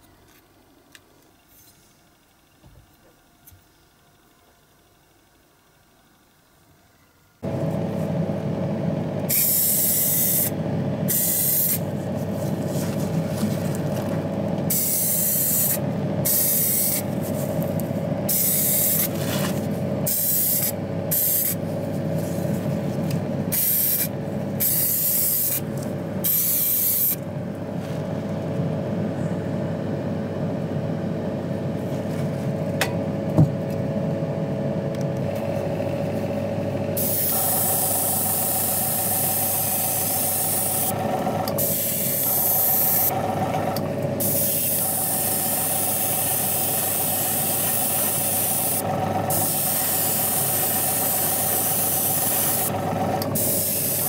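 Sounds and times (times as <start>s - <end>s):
steady motor hum: 7.4s - 54.0s.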